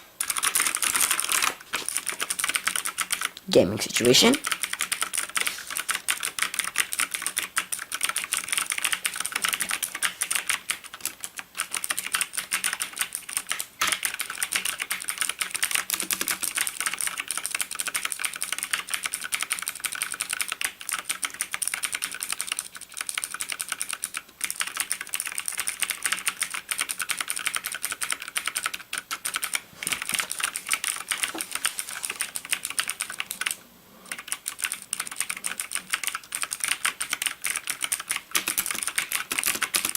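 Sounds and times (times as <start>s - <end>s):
mechanical keyboard clicking: 0.2s - 39.9s.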